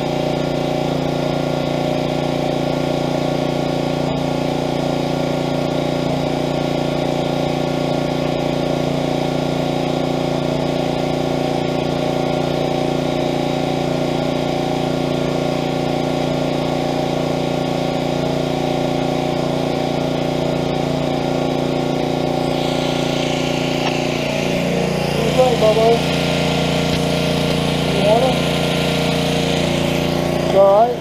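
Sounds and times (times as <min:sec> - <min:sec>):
small engine running steadily: 0:00.0 - 0:31.0.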